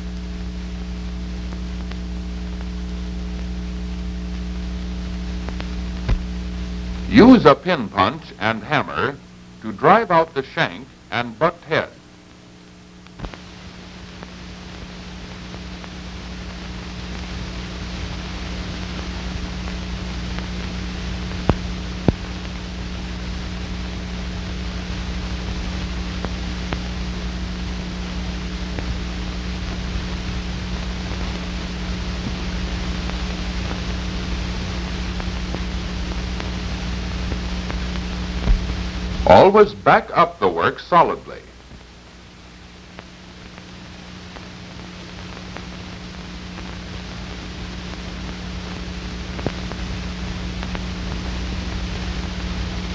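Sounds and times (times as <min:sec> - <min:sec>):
film soundtrack hiss and hum: 0:00.0 - 0:52.9.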